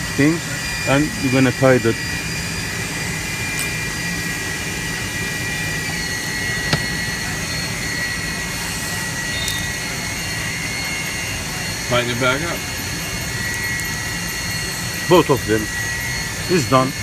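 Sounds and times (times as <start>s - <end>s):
faint high whine: 0.0s - 17.0s
workshop machinery hiss and hum: 0.0s - 17.0s.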